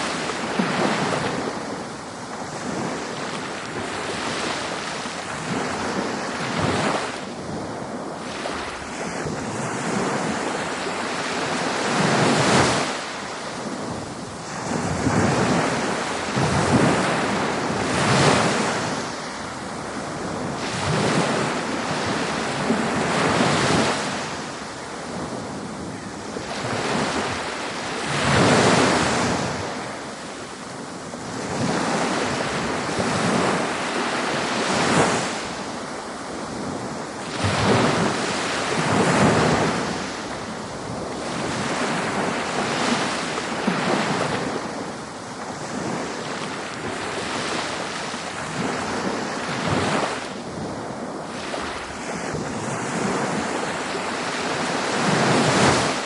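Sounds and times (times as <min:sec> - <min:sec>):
ocean waves breaking: 0:00.0 - 0:56.0
wind on microphone: 0:00.0 - 0:56.0.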